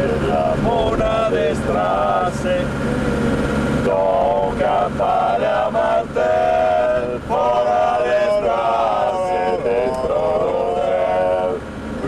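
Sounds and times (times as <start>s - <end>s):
men singing long notes: 0.0s - 2.7s, 3.8s - 11.7s.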